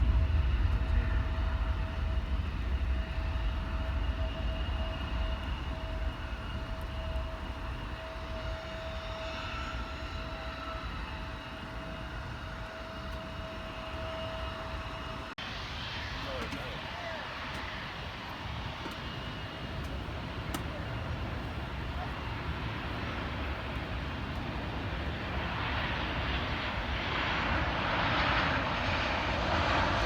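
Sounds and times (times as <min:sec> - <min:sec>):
jet engines rumbling and whining: 0:00.0 - 0:30.0.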